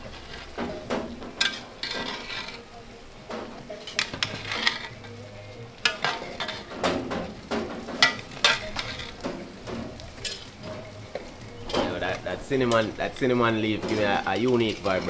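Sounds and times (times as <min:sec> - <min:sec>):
metal spoon scraping pot: 0:00.0 - 0:15.0.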